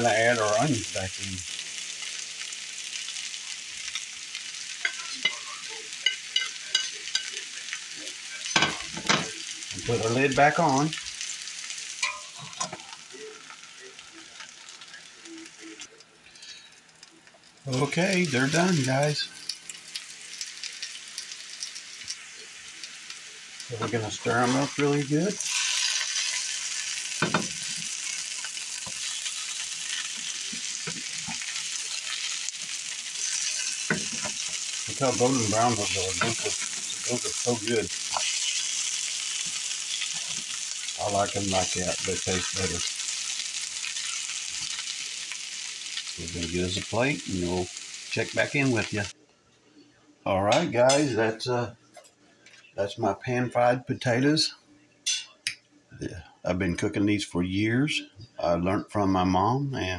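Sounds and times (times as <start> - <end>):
potatoes sizzling in frying pan: 0.0 - 49.2.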